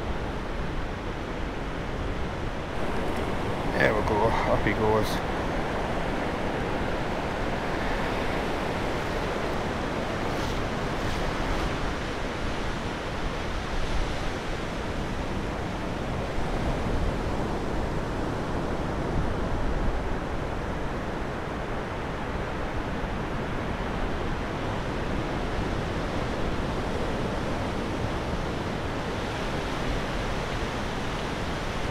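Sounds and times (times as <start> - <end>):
waves breaking on beach: 0.2 - 19.4, 20.0 - 31.9.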